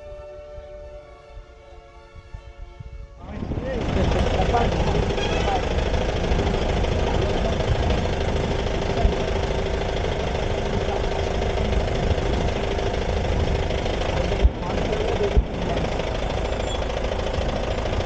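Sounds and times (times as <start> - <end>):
low thumps: 2.3 - 18.0
car engine running: 3.2 - 18.0.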